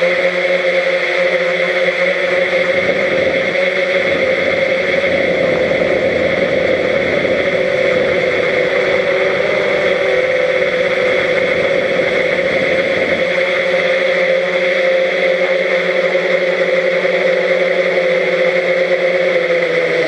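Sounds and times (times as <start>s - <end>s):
drone motors and propellers whirring: 0.1s - 20.0s.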